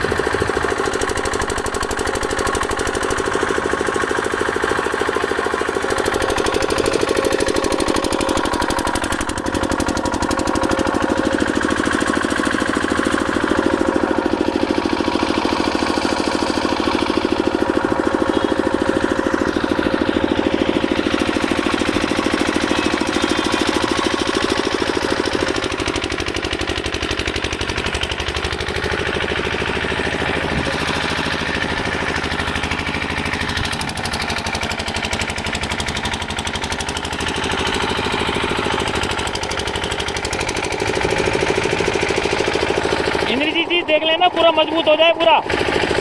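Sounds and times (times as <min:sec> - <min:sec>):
engine knocking: 0:00.0 - 0:46.0.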